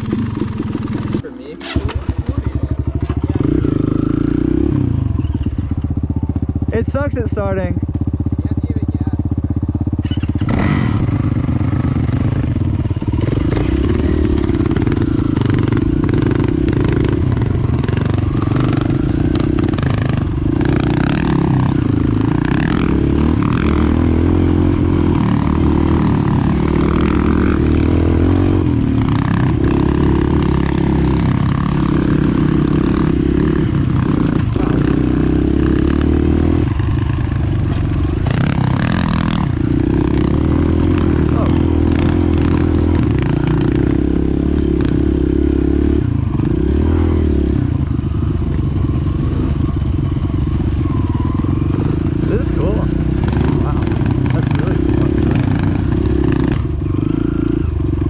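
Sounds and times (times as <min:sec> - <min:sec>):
dirt bike engine revving: 0:00.0 - 0:08.6, 0:09.3 - 0:58.0.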